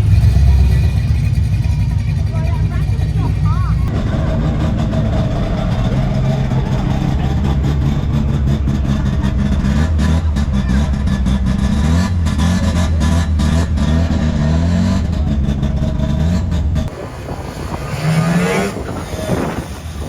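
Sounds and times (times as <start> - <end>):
car engine running at low revs: 0.0 - 20.0
vehicle passing: 0.0 - 20.0.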